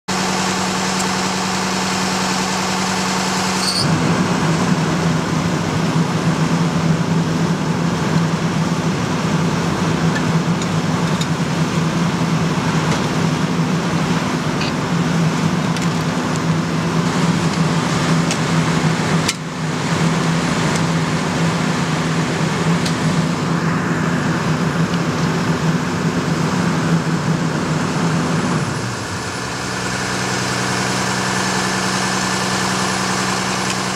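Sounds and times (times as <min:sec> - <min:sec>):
diesel engine droning: 0:00.0 - 0:33.9.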